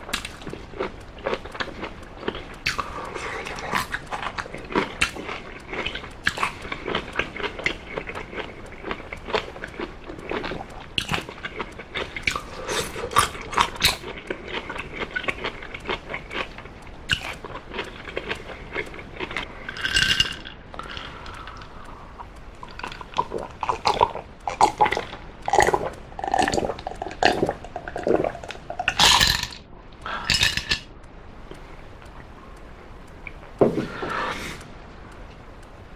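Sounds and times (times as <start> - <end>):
chewing food: 0.0 - 35.9.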